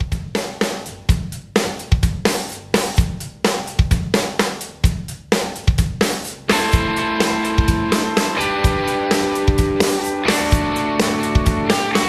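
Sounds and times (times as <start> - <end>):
drum kit beat: 0.0 - 12.0.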